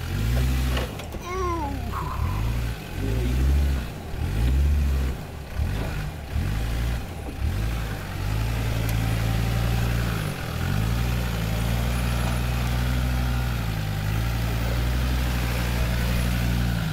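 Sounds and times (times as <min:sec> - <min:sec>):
diesel engine at low revs: 0:00.0 - 0:16.9.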